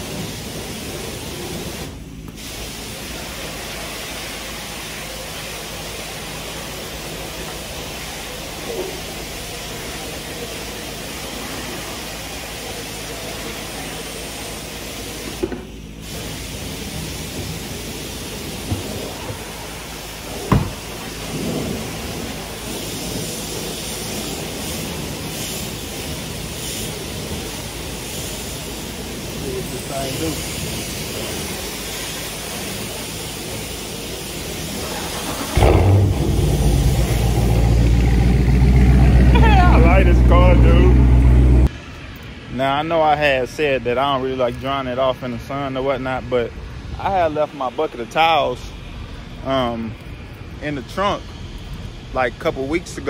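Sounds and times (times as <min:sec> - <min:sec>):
outdoor background hiss: 0:00.0 - 0:53.0.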